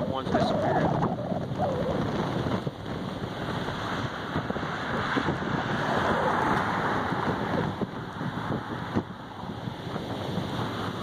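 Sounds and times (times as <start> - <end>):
storm wind on microphone: 0.0 - 11.0.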